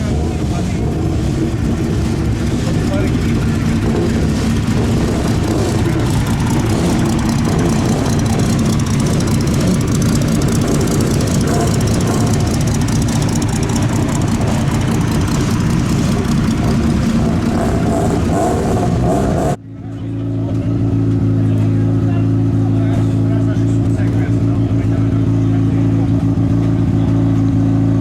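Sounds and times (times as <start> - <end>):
rally car engine droning: 0.0 - 28.0.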